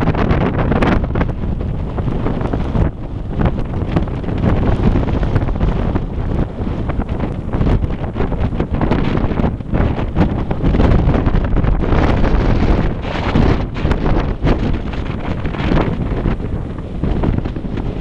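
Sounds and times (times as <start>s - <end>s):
gusting wind buffeting microphone: 0.0s - 18.0s.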